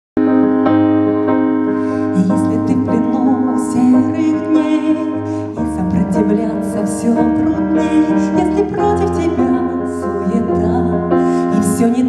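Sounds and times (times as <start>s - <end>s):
keyboard chords and melody: 0.2s - 12.0s.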